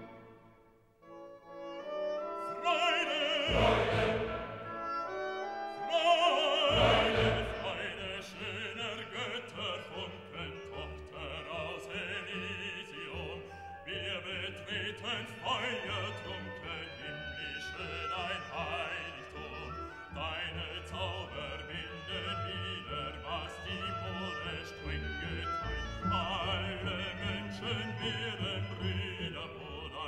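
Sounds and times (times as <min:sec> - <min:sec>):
classical accompaniment: 0:00.0 - 0:30.0
operatic singing voice with vibrato: 0:02.4 - 0:04.9, 0:05.7 - 0:30.0.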